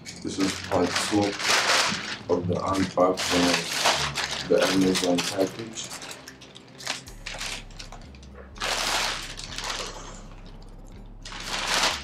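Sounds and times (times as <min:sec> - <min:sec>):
plastic bag rustling: 0:00.0 - 0:10.5, 0:11.2 - 0:12.0.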